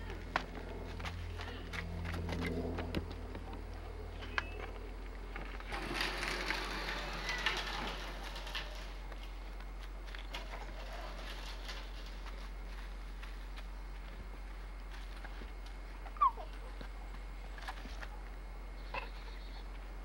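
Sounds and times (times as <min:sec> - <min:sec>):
shoes crunching on gritty ground: 0:00.0 - 0:03.6, 0:04.7 - 0:18.2
steady low hum: 0:00.0 - 0:20.0.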